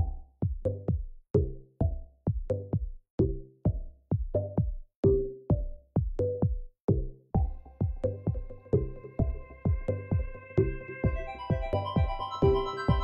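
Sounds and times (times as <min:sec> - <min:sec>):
electronic music beat: 0:00.0 - 0:13.0.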